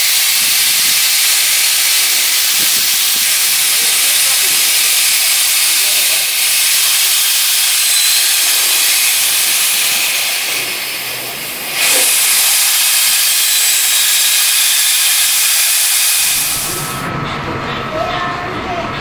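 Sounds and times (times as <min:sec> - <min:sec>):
steam locomotive hissing: 0:00.0 - 0:17.1.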